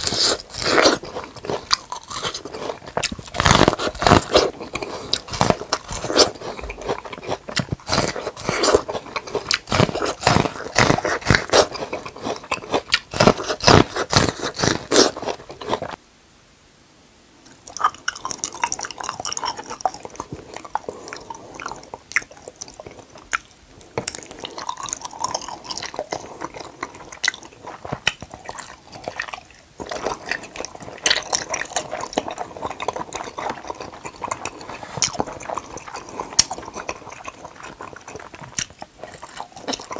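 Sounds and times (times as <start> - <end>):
crunchy bites of corn: 0.0 - 16.0, 17.6 - 39.9
wet squishy chewing: 0.0 - 16.0, 17.6 - 39.9.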